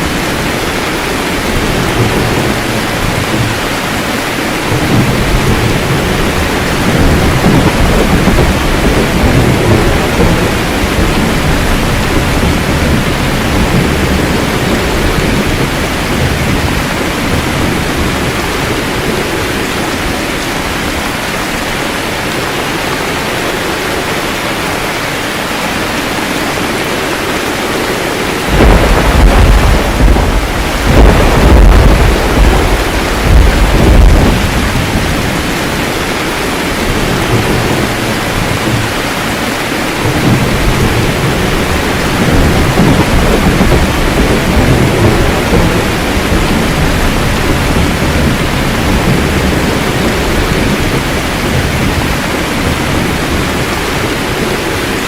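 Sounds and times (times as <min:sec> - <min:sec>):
thunder rolling: 0:00.0 - 0:24.2, 0:24.8 - 0:55.0
steady rain: 0:00.0 - 0:55.0.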